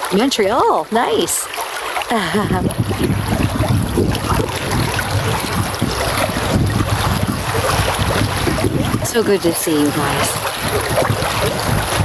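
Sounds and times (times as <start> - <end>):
running water: 0.0 - 12.0
wind noise on microphone: 2.2 - 12.0.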